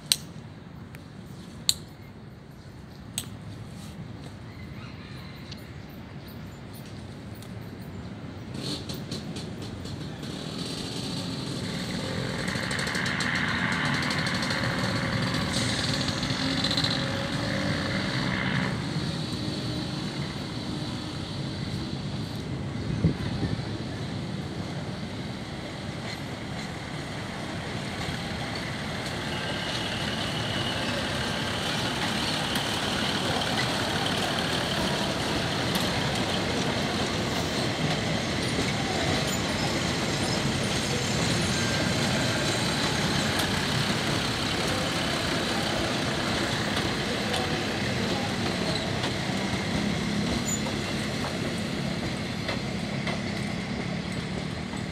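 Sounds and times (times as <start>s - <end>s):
diesel train engine and rolling: 0.0s - 54.9s.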